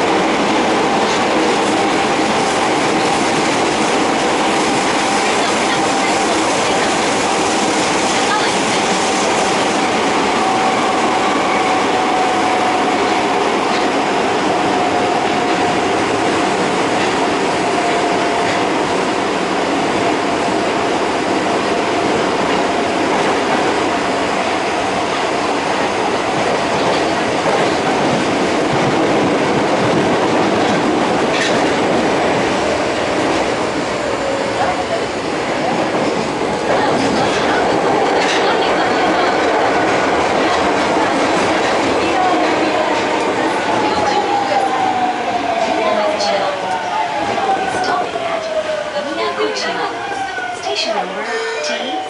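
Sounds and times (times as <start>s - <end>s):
wheels rumbling on rail: 0.0s - 52.0s.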